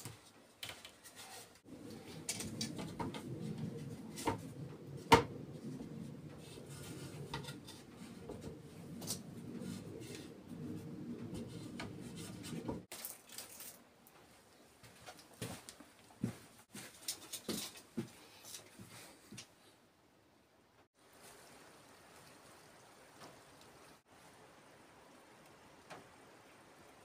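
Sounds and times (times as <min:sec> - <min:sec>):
low steady background noise: 0:00.0 - 0:27.0.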